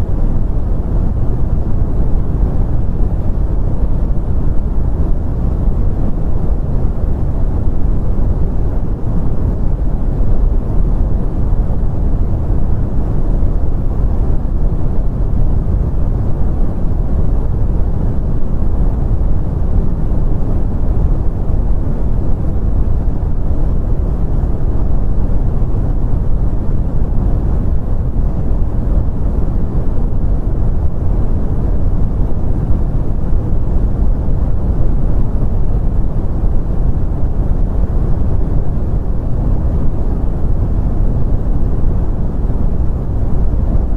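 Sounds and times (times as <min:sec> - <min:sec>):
brown noise: 0:00.0 - 0:43.9.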